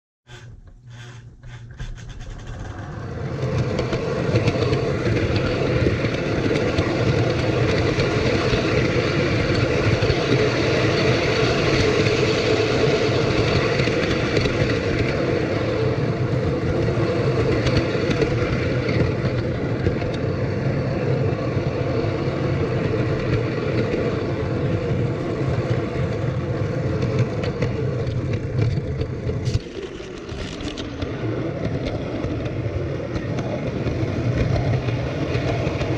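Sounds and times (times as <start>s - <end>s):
model train whirring on rails: 2.4s - 35.9s.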